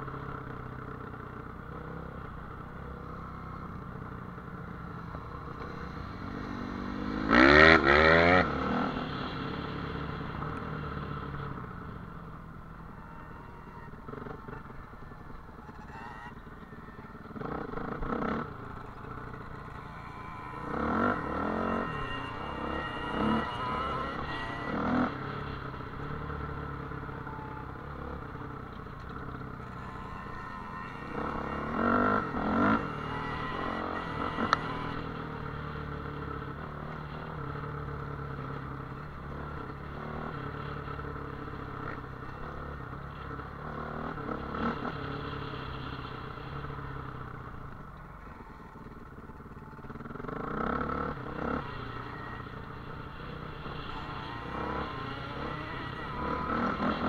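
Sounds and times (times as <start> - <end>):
off-road motorcycle engine: 0.0 - 57.0.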